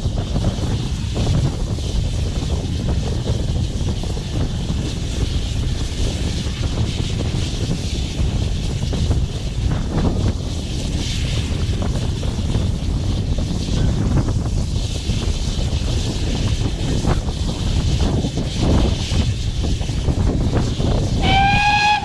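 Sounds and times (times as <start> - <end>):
steam locomotive rumble: 0.0 - 22.0
wind buffeting microphone: 0.0 - 22.0.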